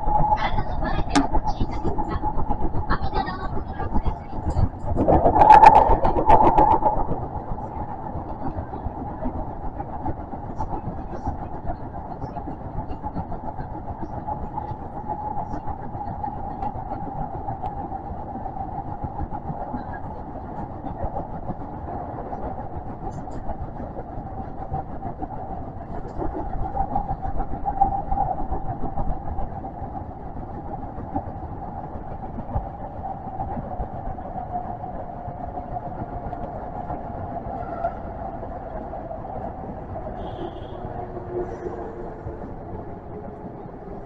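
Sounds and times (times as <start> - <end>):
train running rumble: 0.0 - 44.0.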